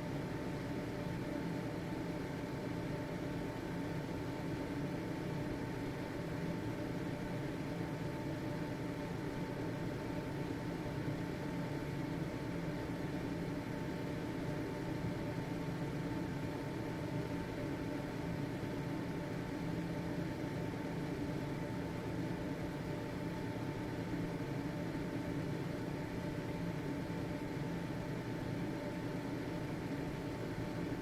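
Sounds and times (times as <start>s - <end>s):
ventilation fan running: 0.0s - 31.0s.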